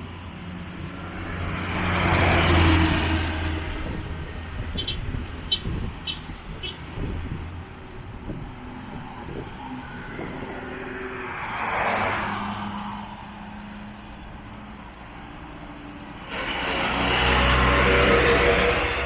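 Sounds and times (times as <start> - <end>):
vehicle passing: 0.8 - 14.0, 16.3 - 19.0.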